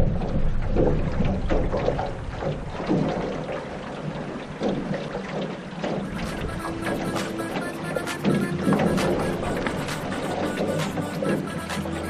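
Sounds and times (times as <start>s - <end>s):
water slapping against canoe hull: 0.0s - 12.0s.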